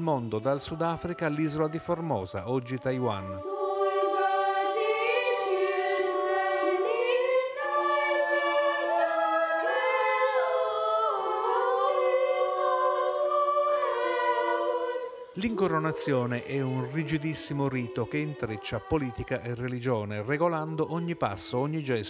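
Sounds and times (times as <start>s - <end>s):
boys' choir singing: 0.0s - 22.0s.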